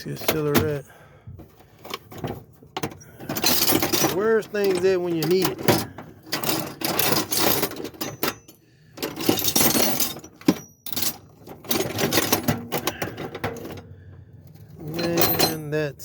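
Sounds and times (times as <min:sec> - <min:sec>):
hands rummaging through clutter: 0:00.0 - 0:16.0.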